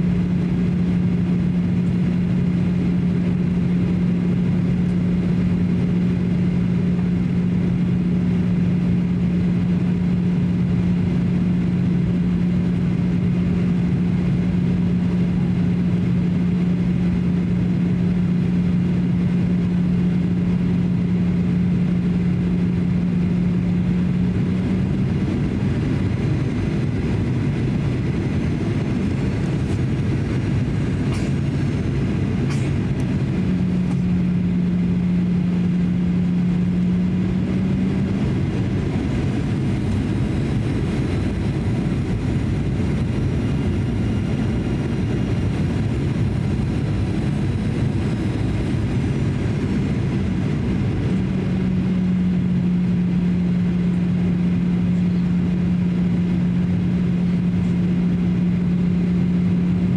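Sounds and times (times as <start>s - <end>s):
airflow roar in cabin: 0.0s - 59.9s
low jet engine hum: 0.0s - 59.9s.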